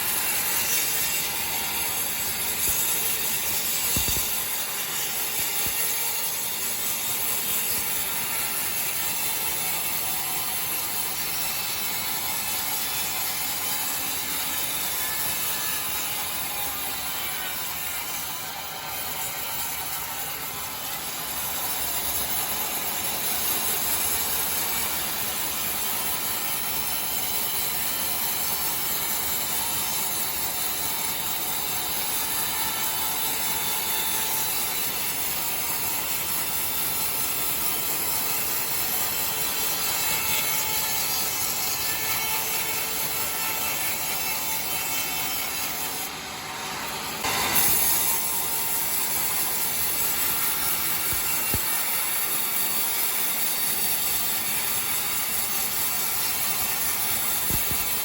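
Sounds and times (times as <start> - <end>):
saw cutting through timber: 0.0 - 58.0.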